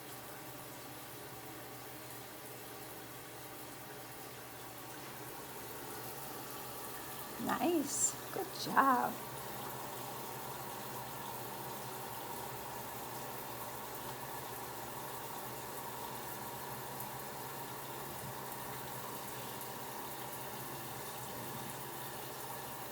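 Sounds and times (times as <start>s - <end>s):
water running from a tap: 0.0s - 22.9s.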